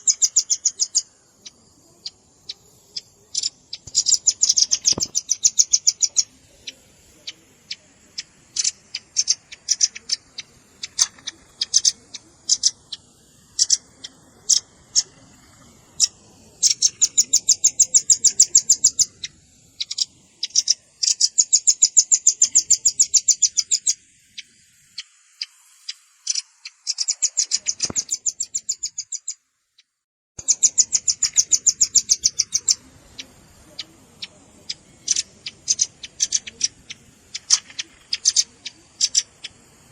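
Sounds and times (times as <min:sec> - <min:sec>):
nuthatch calling high chips and trills: 0:00.0 - 0:29.4, 0:30.4 - 0:39.9.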